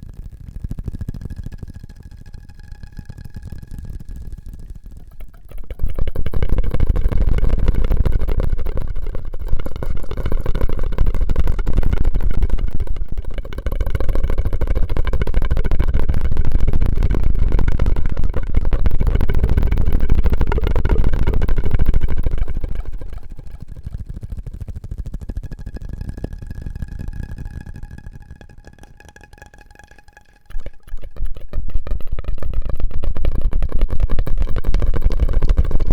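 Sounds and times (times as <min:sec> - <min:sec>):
wet straw and mouth burbling: 0:04.9 - 0:24.0, 0:25.5 - 0:35.9.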